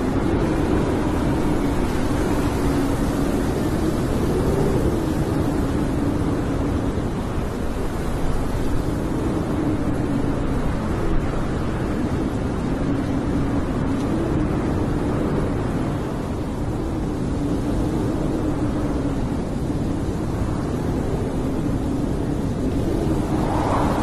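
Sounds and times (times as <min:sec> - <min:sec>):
blizzard wind blowing: 0:00.0 - 0:24.0.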